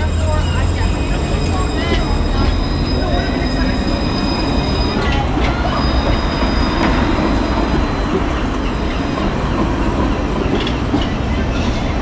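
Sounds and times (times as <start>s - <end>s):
tram rumble: 0.0s - 12.0s
tram wheels squealing on rails: 0.0s - 12.0s.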